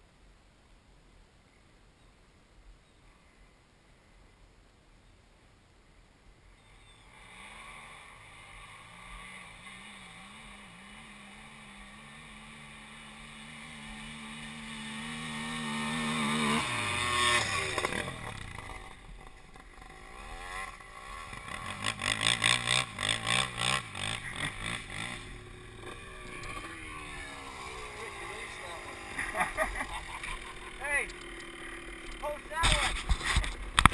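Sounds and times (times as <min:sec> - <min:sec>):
quad engines running: 0:06.6 - 0:33.9
quad passing close: 0:06.7 - 0:33.9.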